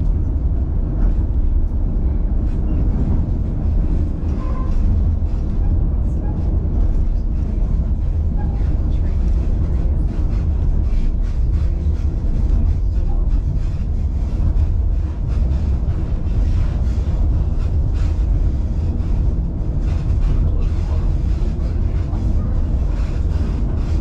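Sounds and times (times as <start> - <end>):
rattles and clicks of wheels: 0.0 - 24.0
train car rumbling on rails: 0.0 - 24.0.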